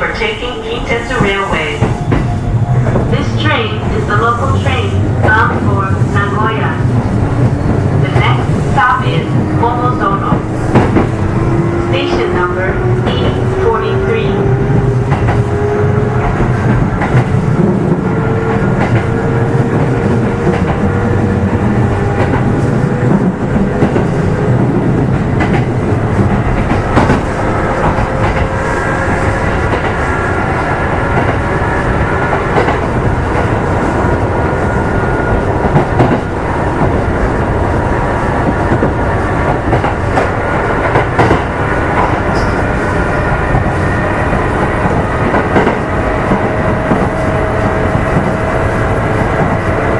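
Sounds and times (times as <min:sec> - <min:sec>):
train motor and gear whine: 0:00.0 - 0:49.9
rail-joint clicks: 0:00.8 - 0:30.1, 0:32.2 - 0:34.1, 0:35.3 - 0:37.0, 0:38.4 - 0:49.9.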